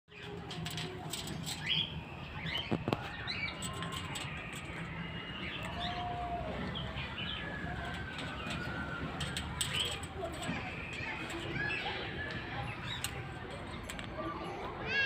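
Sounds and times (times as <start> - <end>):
birds chirping: 0.1 - 15.0.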